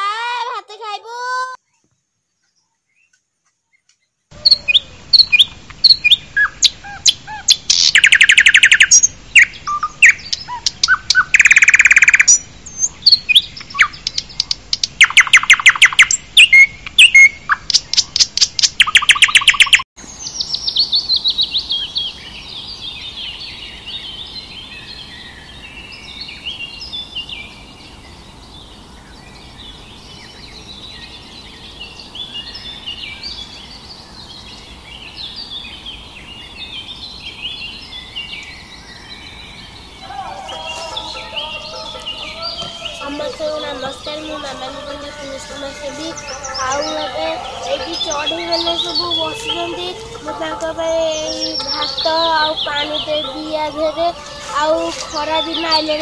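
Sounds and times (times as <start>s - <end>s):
chorus of birds chirping: 1.5s - 56.0s
birds calling with rapid trills: 2.5s - 56.0s.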